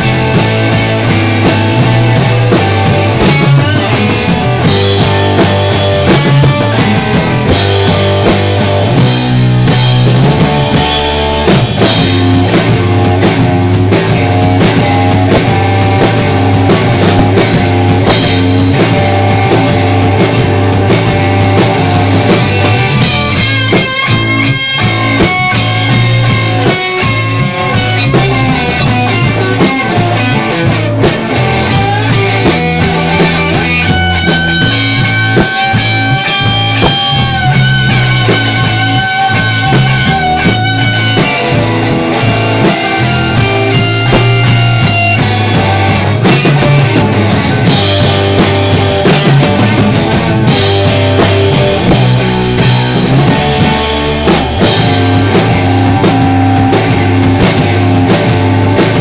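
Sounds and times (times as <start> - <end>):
loud rock music: 0.0 - 59.0.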